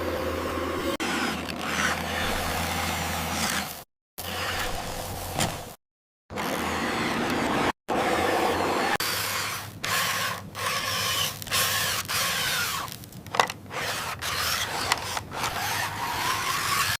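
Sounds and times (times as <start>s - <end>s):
small electric motors whirring: 0.3s - 5.7s, 6.3s - 17.0s.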